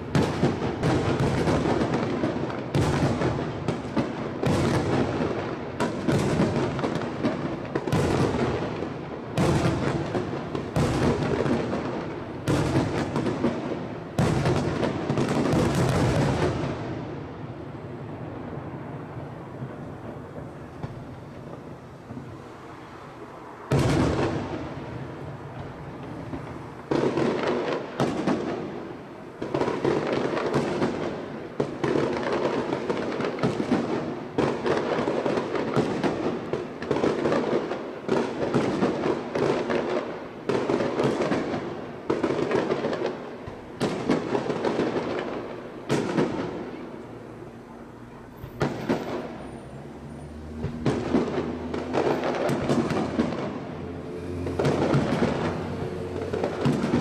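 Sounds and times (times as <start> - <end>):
fireworks crackle: 0.0 - 57.0.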